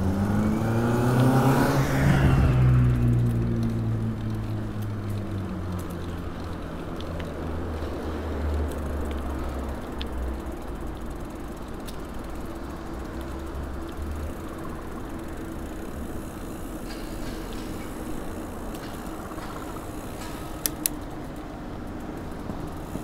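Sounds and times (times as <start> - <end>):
street noise: 0.0 - 23.0
vehicle engine idling: 2.5 - 23.0
faint ticks: 3.1 - 23.0.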